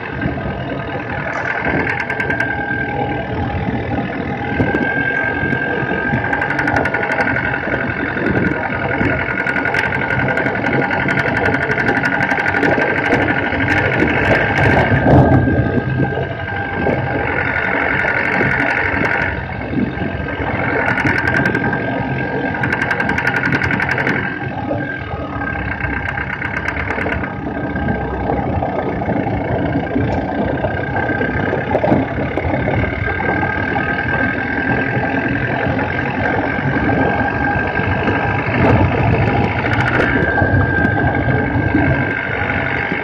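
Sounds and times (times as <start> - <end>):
rapid clicking: 0.0 - 43.0
vehicle engine running: 0.0 - 43.0.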